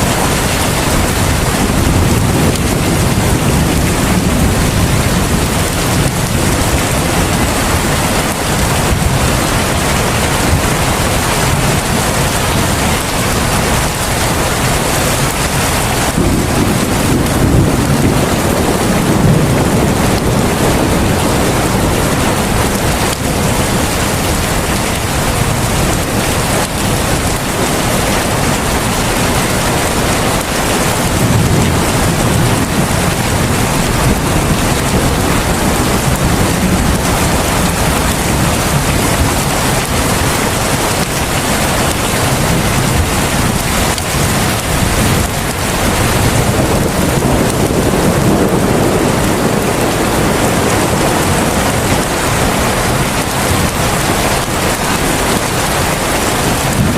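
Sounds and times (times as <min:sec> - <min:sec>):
heavy rain hissing: 0:00.0 - 0:56.9.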